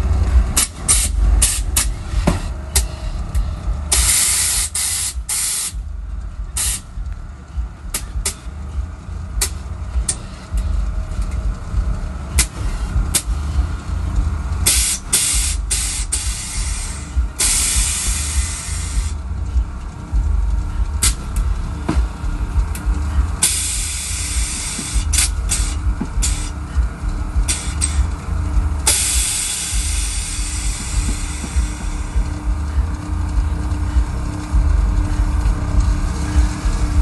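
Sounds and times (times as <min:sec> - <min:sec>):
air suspension hissing: 0:00.0 - 0:37.0
steady low rumble: 0:00.0 - 0:37.0.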